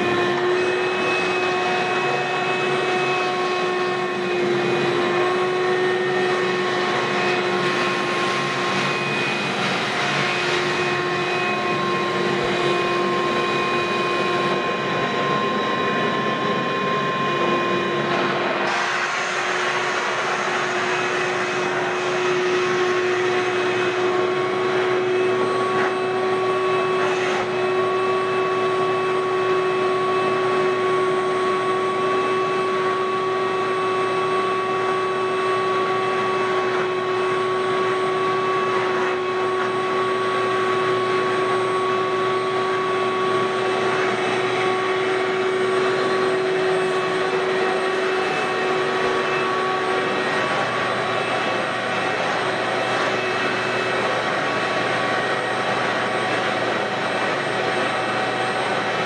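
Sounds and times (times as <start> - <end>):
shop vacuum running: 0.0 - 59.0
vacuum whine: 0.0 - 59.0.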